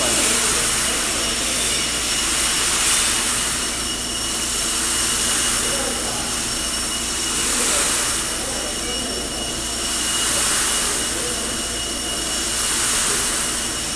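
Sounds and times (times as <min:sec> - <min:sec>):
fans and flame rushing: 0:00.0 - 0:13.9
thin high whines: 0:00.0 - 0:13.9.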